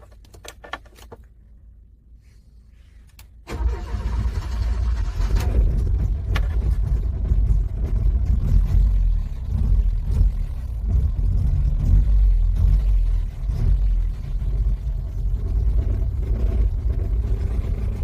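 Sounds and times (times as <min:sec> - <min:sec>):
car engine cranking and starting: 0:03.4 - 0:18.0.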